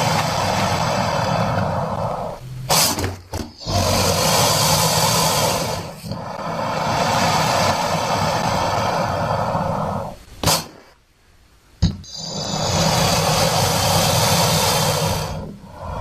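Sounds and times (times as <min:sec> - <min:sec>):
crocodile growling: 0:00.0 - 0:10.2, 0:12.1 - 0:16.0.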